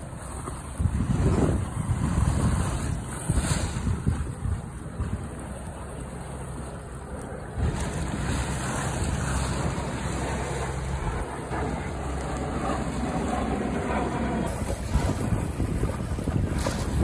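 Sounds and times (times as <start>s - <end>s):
choppy water slapping hull: 0.0s - 17.0s
wind buffeting microphone: 0.0s - 17.0s.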